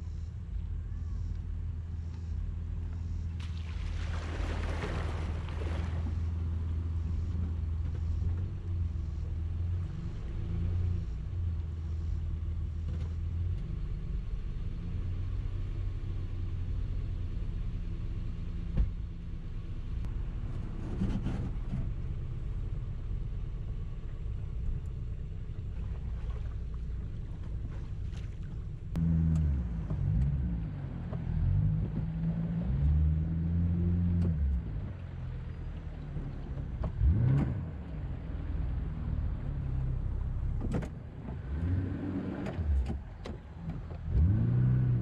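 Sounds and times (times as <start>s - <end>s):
truck engine rumbling: 0.0s - 45.0s.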